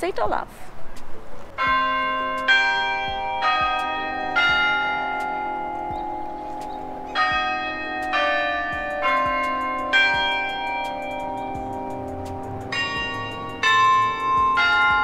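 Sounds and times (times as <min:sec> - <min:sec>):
bells struck: 0:01.6 - 0:15.0.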